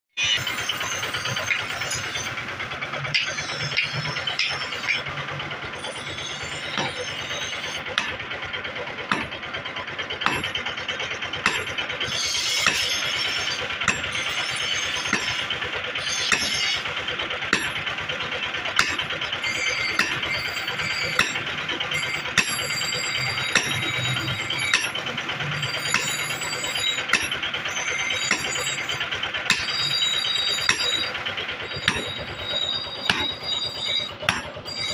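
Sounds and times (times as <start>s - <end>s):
hammer striking metal on anvil: 0.2s - 2.3s, 3.1s - 5.1s, 5.7s - 8.4s, 9.0s - 34.9s.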